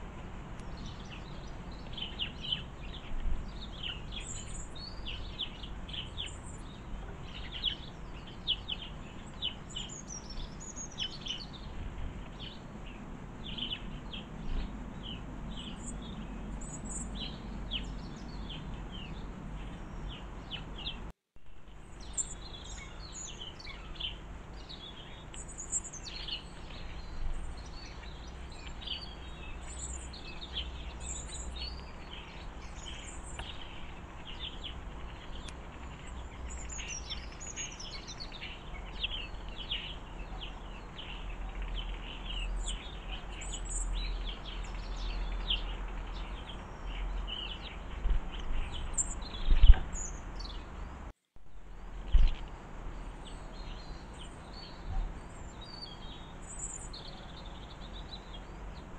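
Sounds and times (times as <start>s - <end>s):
low steady rumble: 0.0s - 58.9s
songbirds chirping: 0.0s - 58.9s.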